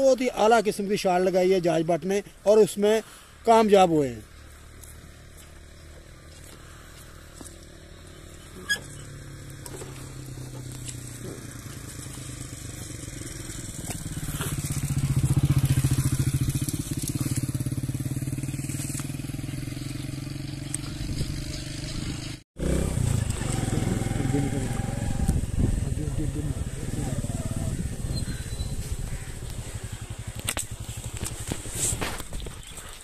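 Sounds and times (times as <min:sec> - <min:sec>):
motorcycle engine running: 0:04.2 - 0:32.9.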